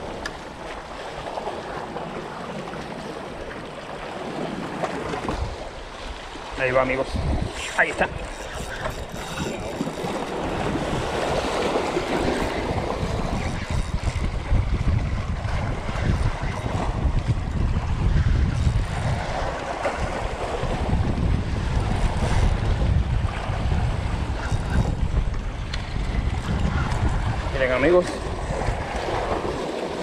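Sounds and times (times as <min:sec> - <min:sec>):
wind buffeting microphone: 0:04.2 - 0:30.0.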